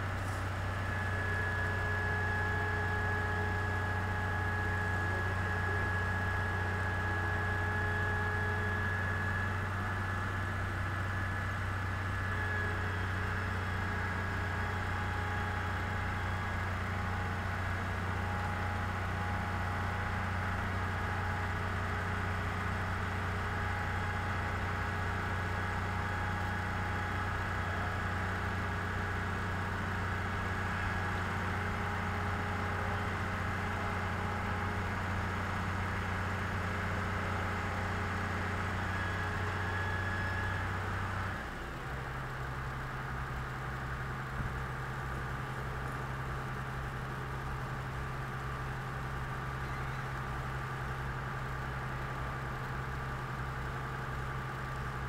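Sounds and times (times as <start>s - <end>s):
crane diesel engine humming: 0.0s - 55.0s.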